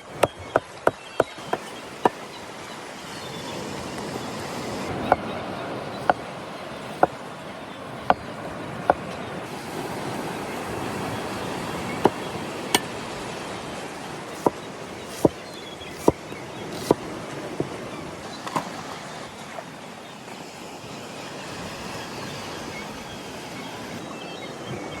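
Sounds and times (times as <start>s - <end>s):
sea surf: 0.0s - 25.0s.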